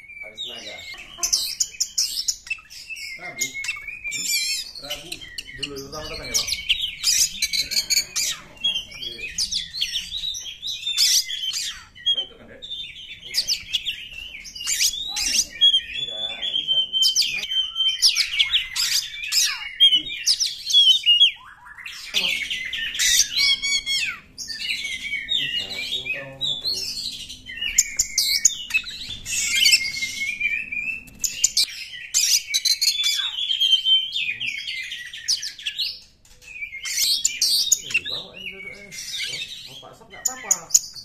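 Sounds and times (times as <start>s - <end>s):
bird singing varied song: 0.0s - 41.0s.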